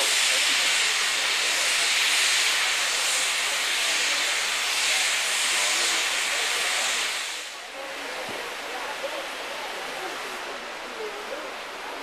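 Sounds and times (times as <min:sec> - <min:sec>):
hiss of escaping steam: 0:00.0 - 0:10.6
steam locomotives working uphill: 0:00.0 - 0:12.0.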